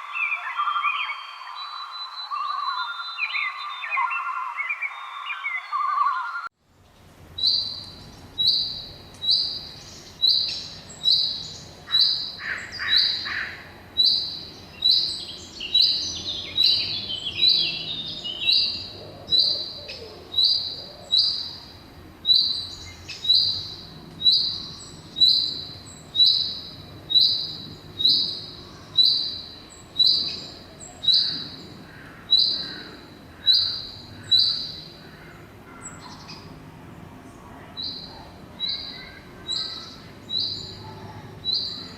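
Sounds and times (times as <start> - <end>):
other birds calling: 7.4 - 41.9.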